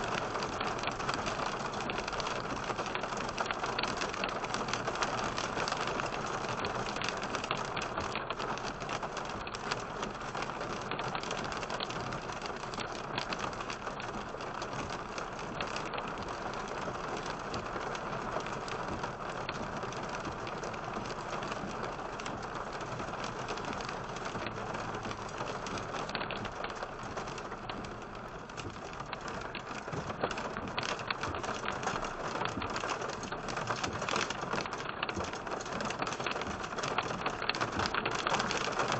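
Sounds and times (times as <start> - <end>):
heavy rain on a car: 0.0 - 38.9
hail striking a car: 0.1 - 38.9.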